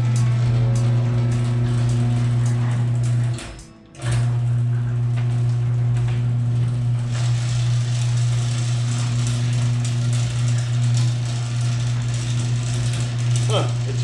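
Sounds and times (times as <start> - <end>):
garage door motor humming: 0.0 - 14.0
garage door rollers rattling: 0.0 - 14.0.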